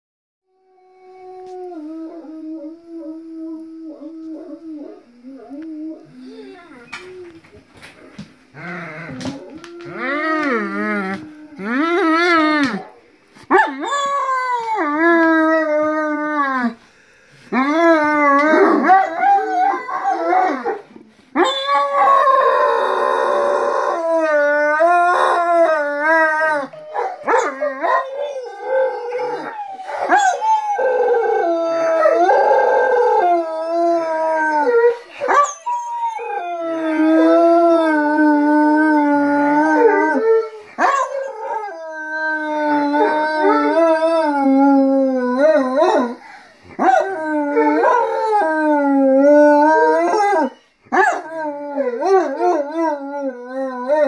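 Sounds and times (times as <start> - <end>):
dogs howling: 8.5 - 16.8, 17.6 - 54.0.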